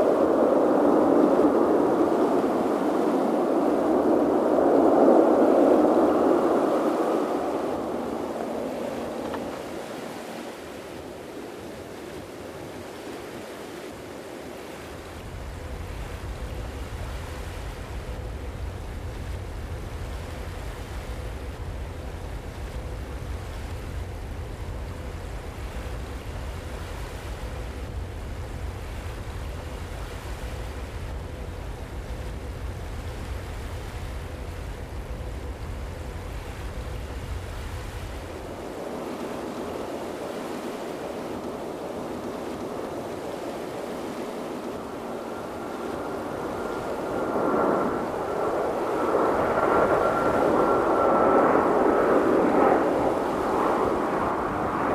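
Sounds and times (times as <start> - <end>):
faint steady hum: 0.0 - 54.9
sea surf: 0.0 - 54.9
wind: 0.0 - 54.9
wind rumble on microphone: 0.0 - 54.9.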